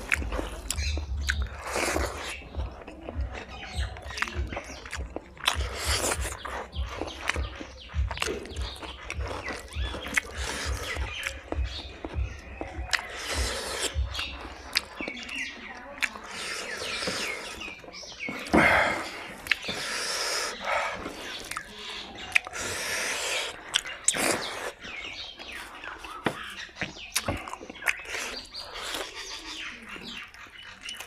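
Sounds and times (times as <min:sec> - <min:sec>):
chewing and lip-smacking: 0:00.0 - 0:31.0
gnawing and sucking on bone: 0:00.0 - 0:31.0.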